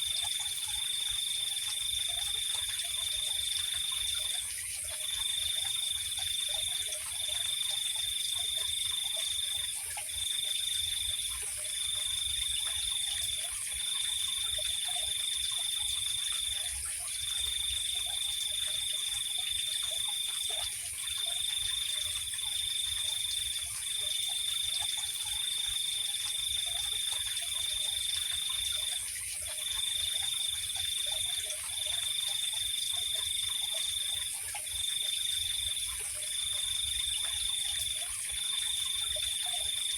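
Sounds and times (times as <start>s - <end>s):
faint low insect calls: 0.0s - 39.9s
insect trill: 0.0s - 39.9s.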